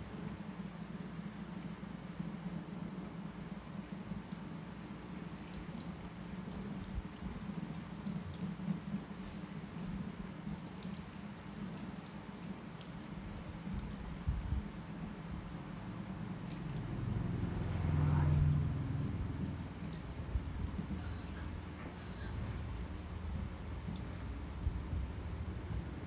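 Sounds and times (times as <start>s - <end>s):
shower sprayer water splashing: 0.0s - 26.0s
steady low hum: 0.0s - 26.0s
water dripping: 2.3s - 26.0s.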